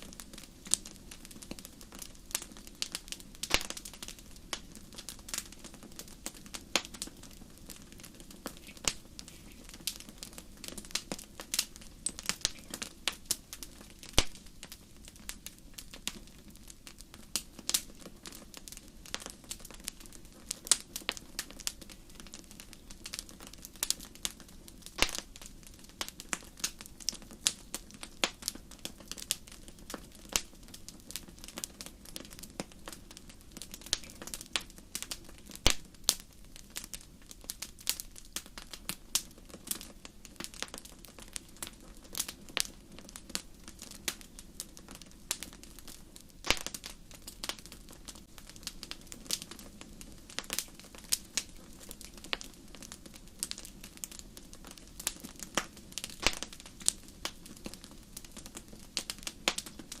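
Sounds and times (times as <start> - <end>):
low hiss: 0.0 - 60.0
wood fire crackling and popping: 0.0 - 60.0.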